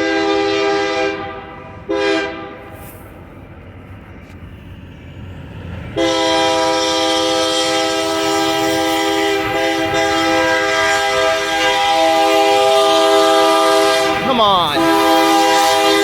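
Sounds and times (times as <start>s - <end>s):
low rumble of approaching train: 0.0s - 14.2s.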